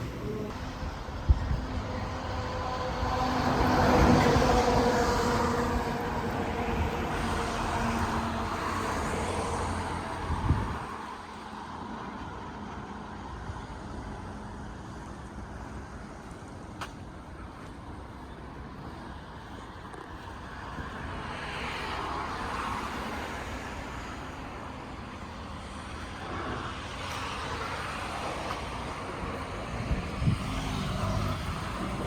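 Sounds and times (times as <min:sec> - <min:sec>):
cars passing: 0:00.0 - 0:32.0.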